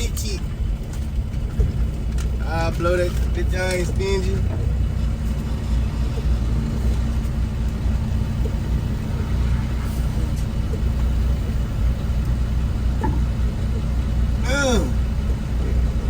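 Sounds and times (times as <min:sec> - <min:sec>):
diesel truck engine droning: 0:00.0 - 0:16.0.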